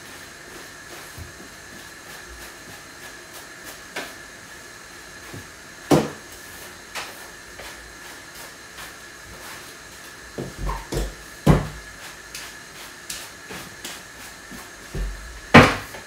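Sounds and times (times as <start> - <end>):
broom sweeping tiled floor: 0.0 - 16.0.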